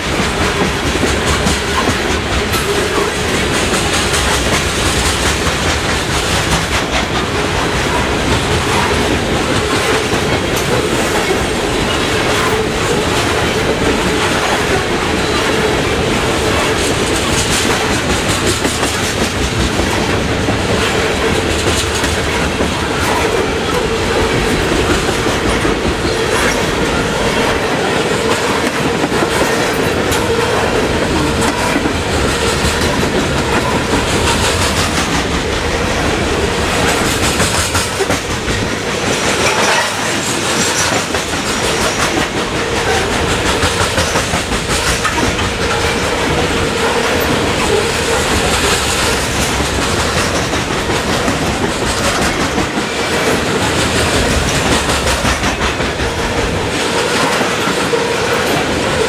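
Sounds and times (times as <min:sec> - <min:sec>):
clickety-clack over rail joints: 0:00.0 - 0:59.0
train wheels rumbling on rails: 0:00.0 - 0:59.0.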